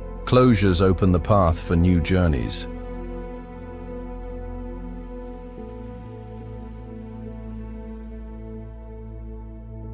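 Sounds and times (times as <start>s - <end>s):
ambient music with held chords: 0.0s - 9.9s.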